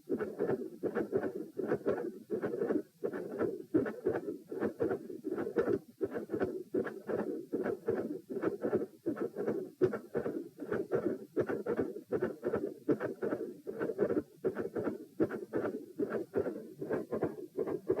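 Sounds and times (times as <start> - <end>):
heartbeat thuds through stethoscope: 0.0 - 18.0
rough heart murmur: 0.0 - 18.0.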